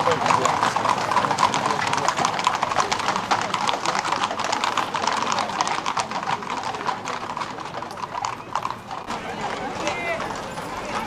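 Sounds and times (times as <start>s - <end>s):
hooves clattering on pavement: 0.0s - 11.0s.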